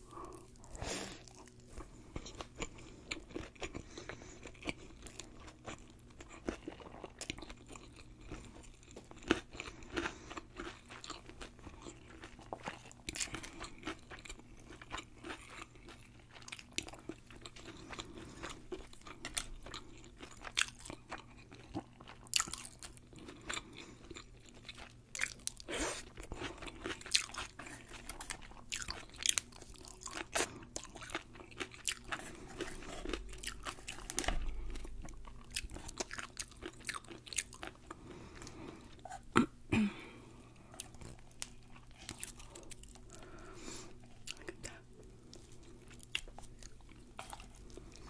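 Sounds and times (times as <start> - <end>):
crisp chewing crunches: 0.2 - 39.2, 40.4 - 48.0.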